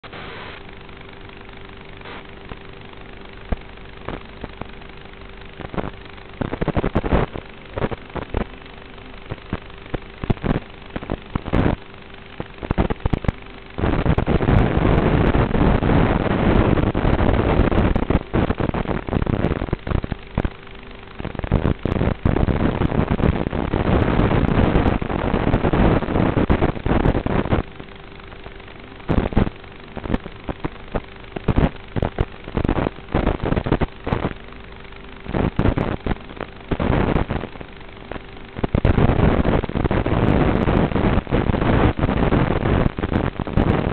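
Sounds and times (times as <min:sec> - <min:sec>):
crackling radio static: 0:00.0 - 0:43.9
steady hum: 0:00.0 - 0:43.9.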